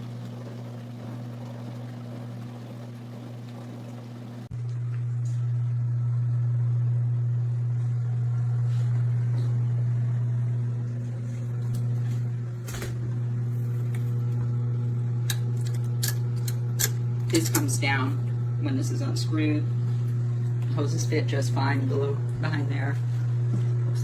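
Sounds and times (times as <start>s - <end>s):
dishwasher motor hum: 0.0s - 24.0s.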